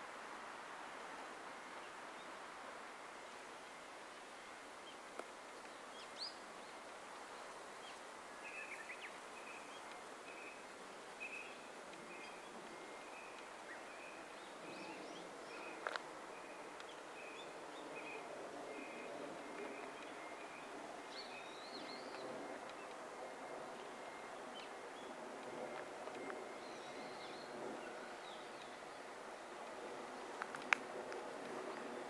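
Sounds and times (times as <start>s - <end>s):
outdoor hiss: 0.0s - 32.0s
wild birds chirping: 3.7s - 32.0s.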